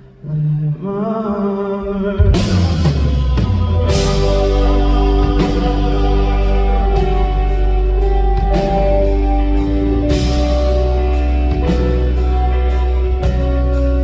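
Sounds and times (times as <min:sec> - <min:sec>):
live band playing instrumental: 0:02.2 - 0:14.0.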